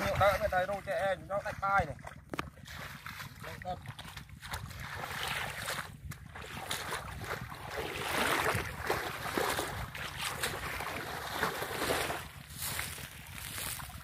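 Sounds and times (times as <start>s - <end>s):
water sloshing from wading: 0.0s - 14.0s
wind buffeting microphone: 0.0s - 14.0s.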